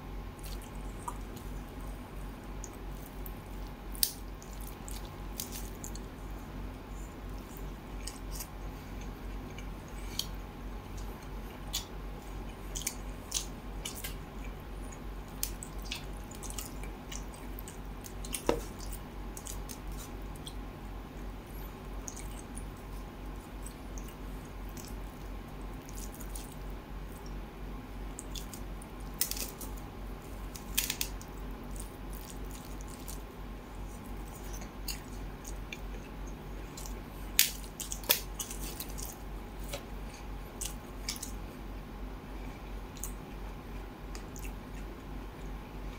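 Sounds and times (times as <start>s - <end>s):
steady low hum: 0.0s - 45.9s
fingers squishing wet food: 0.3s - 41.4s.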